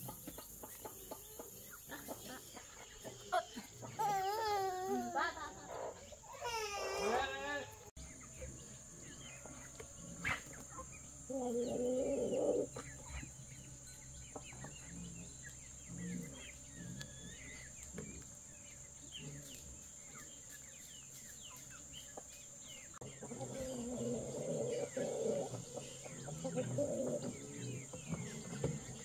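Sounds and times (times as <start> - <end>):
birds calling and chirping: 0.0 - 29.0
high insect hum: 0.0 - 29.0.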